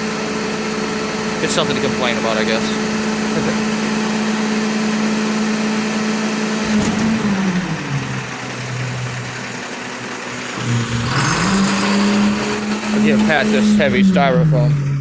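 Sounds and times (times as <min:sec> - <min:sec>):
garbage truck engine running: 0:00.0 - 0:15.0.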